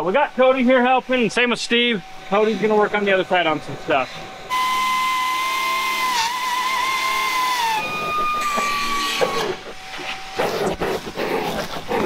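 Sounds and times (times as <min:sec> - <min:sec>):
wet dry vacuum whining: 0:00.0 - 0:12.0.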